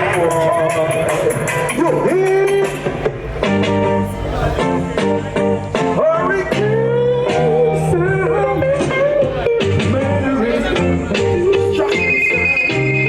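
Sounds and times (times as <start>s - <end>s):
band music over sound system: 0.0s - 13.0s.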